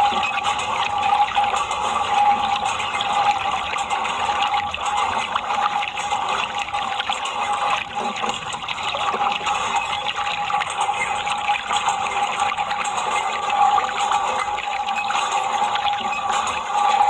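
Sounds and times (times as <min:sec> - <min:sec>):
running splashing water: 0:00.0 - 0:17.0.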